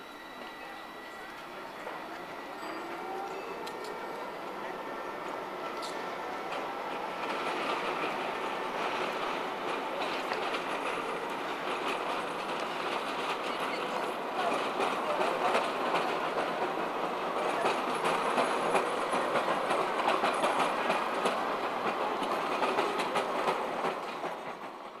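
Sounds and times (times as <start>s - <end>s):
tram rolling on rails: 0.0s - 25.0s.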